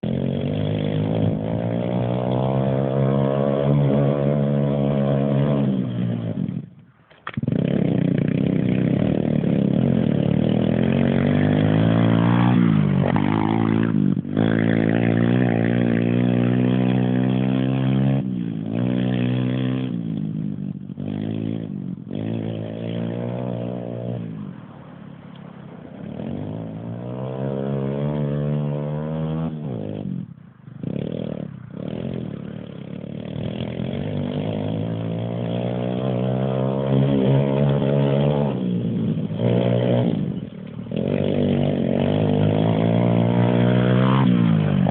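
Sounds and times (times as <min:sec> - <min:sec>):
small motorcycle engine revving: 0:00.0 - 0:44.9.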